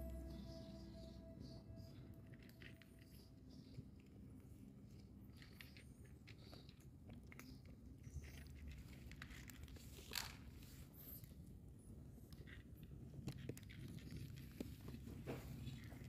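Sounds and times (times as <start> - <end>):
cats crunching dry kibble: 2.3 - 16.0.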